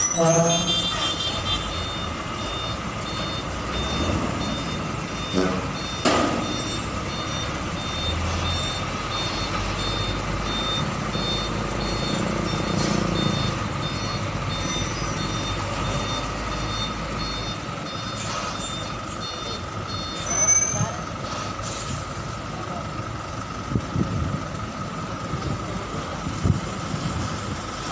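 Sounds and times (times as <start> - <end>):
truck reversing alarm beeping: 0.0 - 23.6
truck engine rumble: 0.0 - 27.9.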